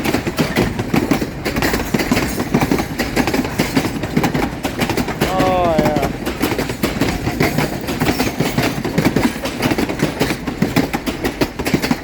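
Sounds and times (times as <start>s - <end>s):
train wheels clattering over rail joints: 0.0s - 12.0s.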